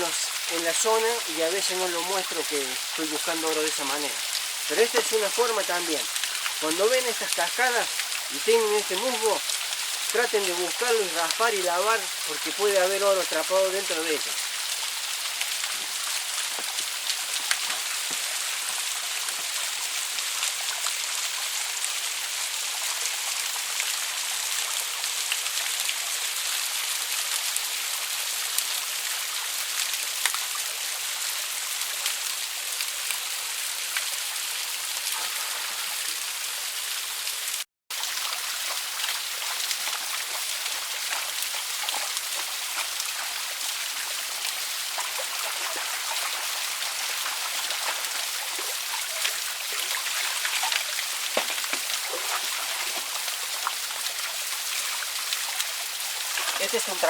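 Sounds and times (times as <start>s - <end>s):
small waterfall splashing: 0.0s - 57.0s
water drips and splashes: 0.0s - 57.0s.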